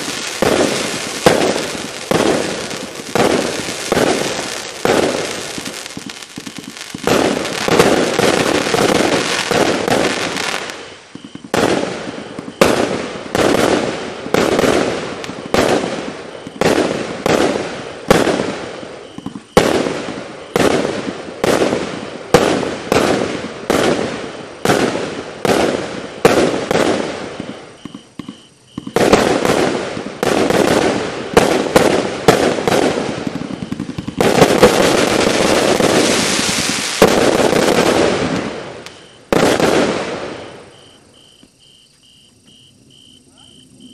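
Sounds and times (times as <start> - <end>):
firework shots cracking: 0.0 - 40.8.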